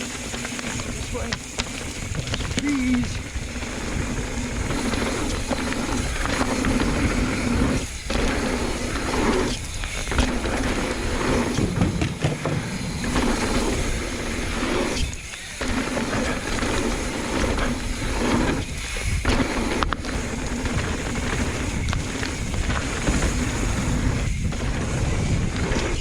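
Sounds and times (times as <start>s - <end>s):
bike tyres rushing on dirt: 0.0s - 26.0s.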